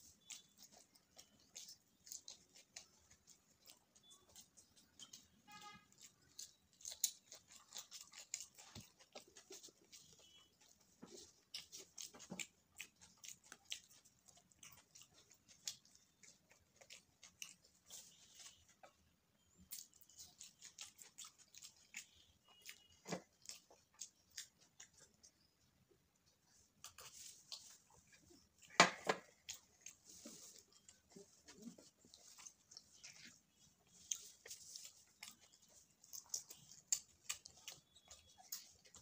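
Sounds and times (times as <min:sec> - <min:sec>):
wet chewing and lip smacking: 0:00.0 - 0:39.0.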